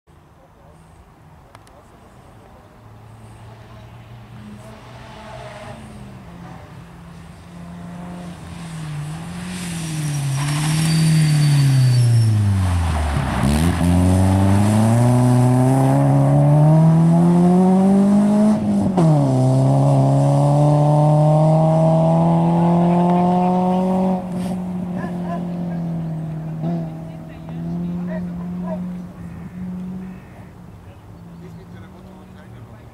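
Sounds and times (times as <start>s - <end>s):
rally car engine: 0.6s - 32.9s.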